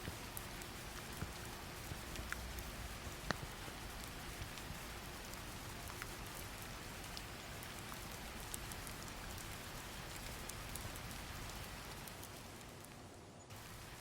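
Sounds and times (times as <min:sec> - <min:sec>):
droplet ticks: 0:00.0 - 0:13.0
rain hiss: 0:00.0 - 0:14.0.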